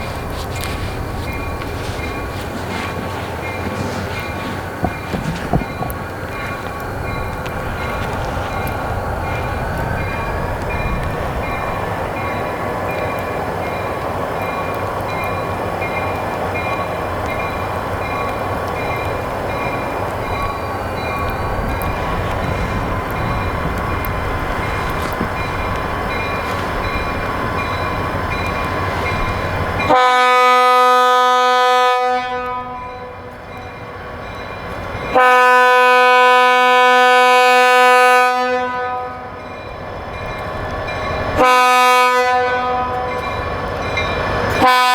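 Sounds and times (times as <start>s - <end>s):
diesel locomotive running: 0.0s - 44.9s
moving train noise: 0.0s - 44.9s.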